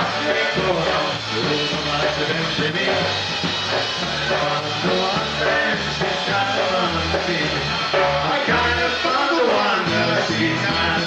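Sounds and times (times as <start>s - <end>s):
polka band playing: 0.0s - 11.0s
pulsing bass line: 0.0s - 11.0s.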